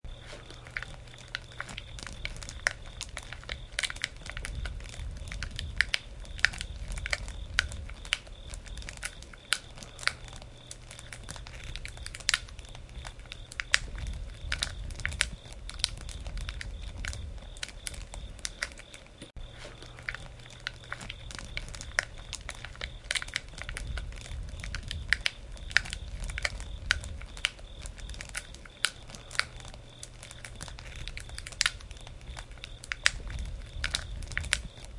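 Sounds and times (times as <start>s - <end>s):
campfire wood crackling: 0.0s - 34.9s
low rumble of flame: 0.0s - 34.9s.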